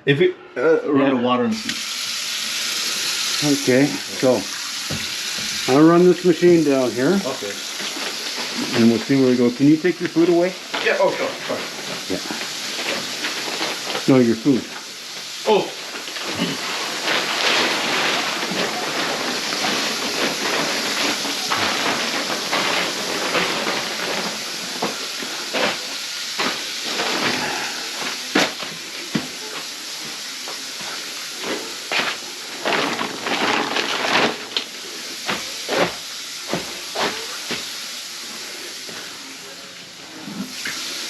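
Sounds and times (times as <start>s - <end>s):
water running into sink: 1.6s - 41.0s.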